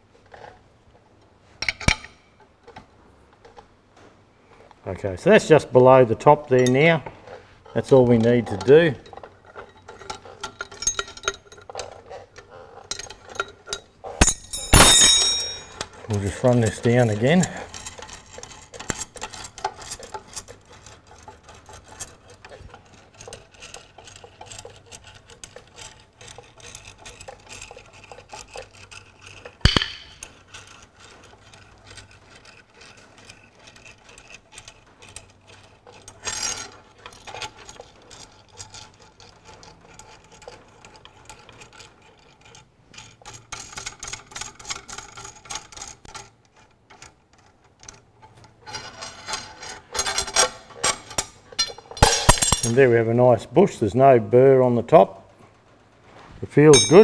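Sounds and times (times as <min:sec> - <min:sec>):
metal scraping: 0:05.2 - 0:43.8, 0:47.8 - 0:57.0.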